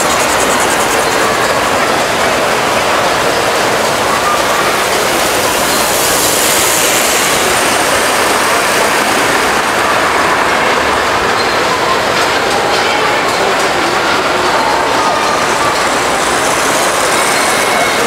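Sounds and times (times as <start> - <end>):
model train wheels rattling on rails: 0.0 - 18.0.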